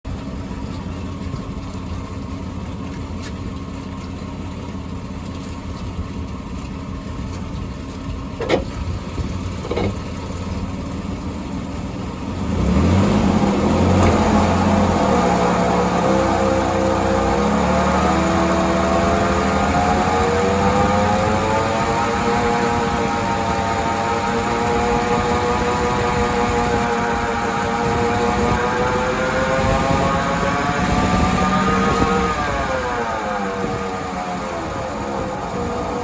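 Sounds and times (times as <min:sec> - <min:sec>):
wheel bearing droning hum: 0:00.1 - 0:36.0.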